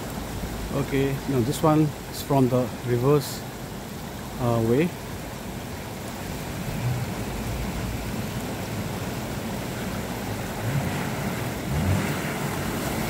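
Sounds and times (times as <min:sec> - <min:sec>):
rushing stream: 0:00.0 - 0:13.0.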